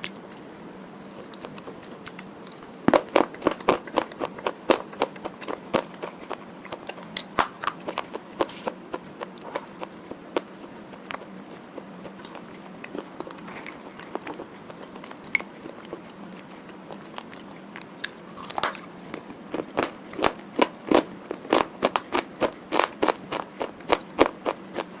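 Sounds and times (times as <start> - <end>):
crunching snack bar: 0.0 - 25.0.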